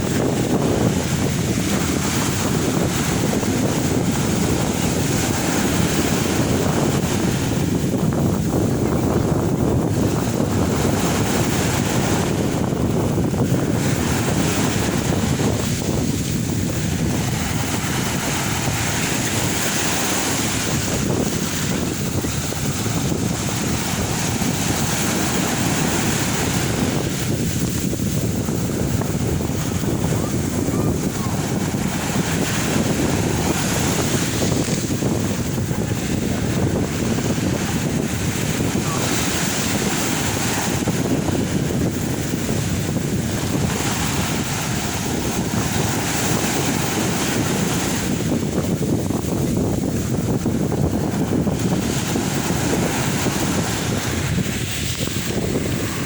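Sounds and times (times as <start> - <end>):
sea waves washing onto shore: 0.0 - 56.0
wind buffeting microphone: 0.0 - 56.0.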